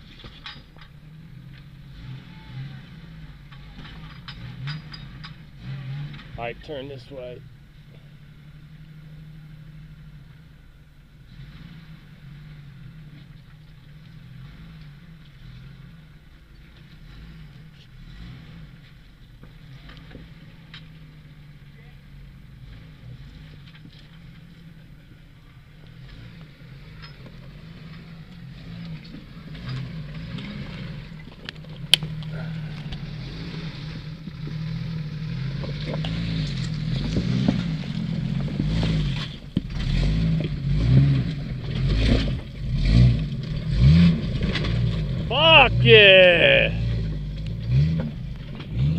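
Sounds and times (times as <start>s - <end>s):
off-road vehicle engine at low revs: 0.0s - 48.9s.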